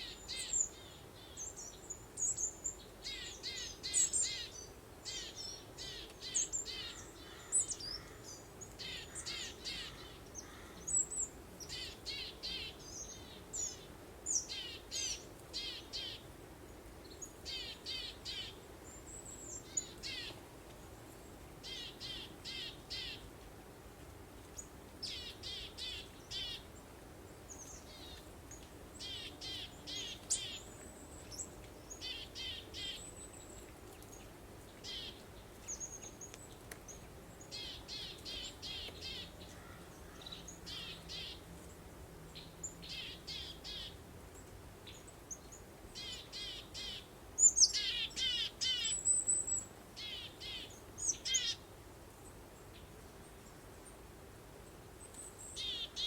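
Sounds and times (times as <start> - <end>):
songbirds chirping: 0.0 - 23.5, 24.3 - 56.0
soft breeze: 0.0 - 56.0.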